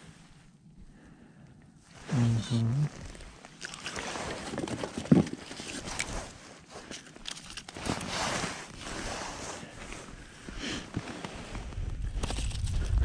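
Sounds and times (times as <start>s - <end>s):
winter clothing rustling: 1.9s - 13.0s.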